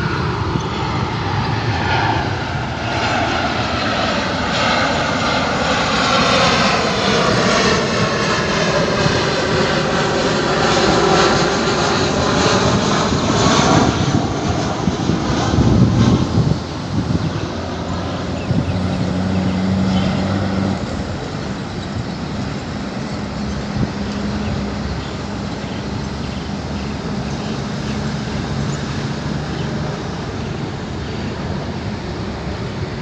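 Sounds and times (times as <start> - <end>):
jet airliner on approach: 0.0 - 33.0
traffic and engine rumble: 0.0 - 33.0.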